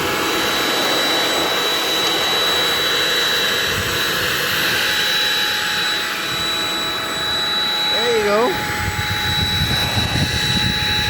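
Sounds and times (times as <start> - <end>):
handheld blower whining: 0.0 - 11.0.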